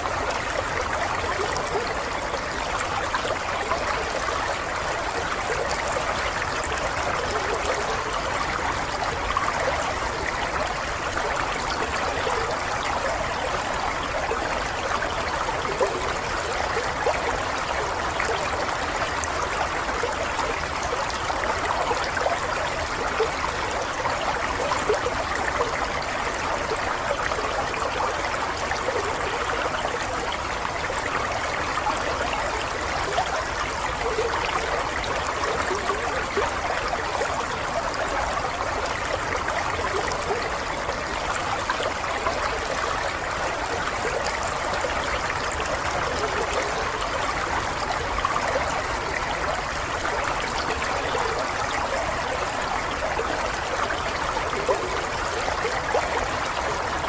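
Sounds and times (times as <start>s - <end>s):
running water babbling: 0.0s - 57.0s.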